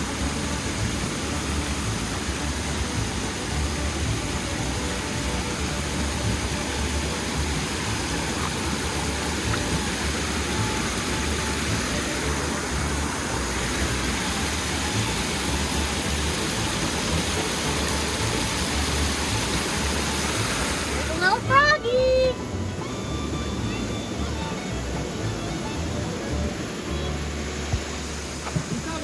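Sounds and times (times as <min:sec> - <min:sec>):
water rushing over waterfall: 0:00.0 - 0:29.0.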